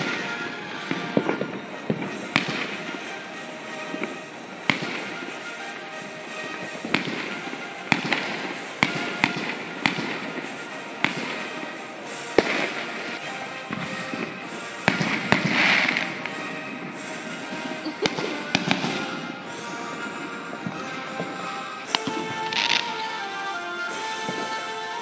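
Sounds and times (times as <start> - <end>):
fireworks bangs: 0.0 - 25.0
fireworks crackling and hissing: 0.0 - 25.0
music: 0.0 - 25.0.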